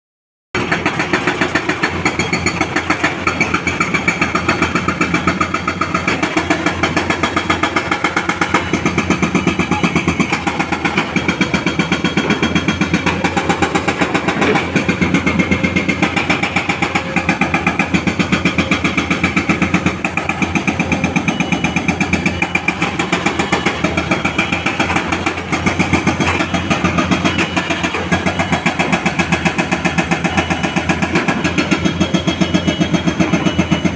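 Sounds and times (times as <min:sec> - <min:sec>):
diesel engine running under load: 0:00.6 - 0:33.9.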